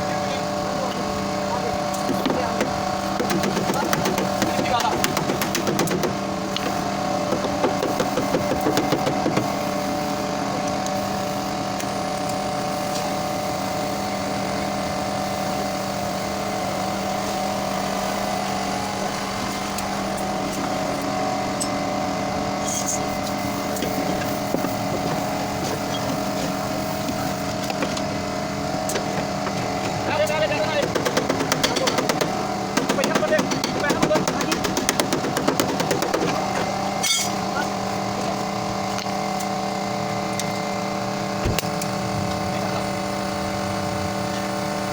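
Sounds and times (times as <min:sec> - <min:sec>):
machine humming: 0:00.0 - 0:44.9.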